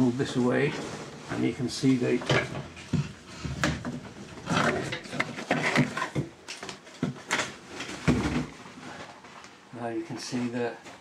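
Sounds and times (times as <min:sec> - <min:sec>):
knocks scrapes and rustles: 0:00.0 - 0:09.5.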